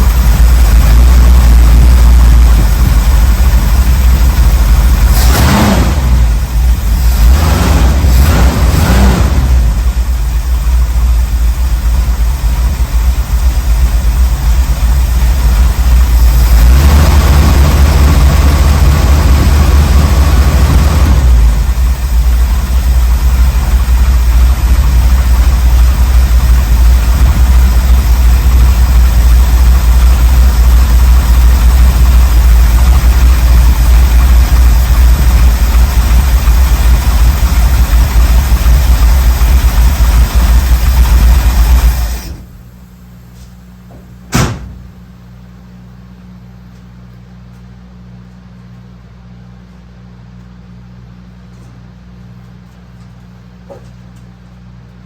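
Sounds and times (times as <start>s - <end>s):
engine rumbling: 0.0s - 55.0s.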